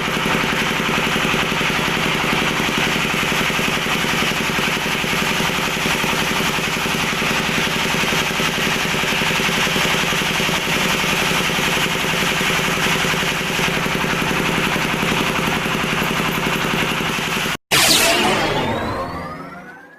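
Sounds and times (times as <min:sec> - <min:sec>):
mechanical running hum: 0:00.0 - 0:19.9.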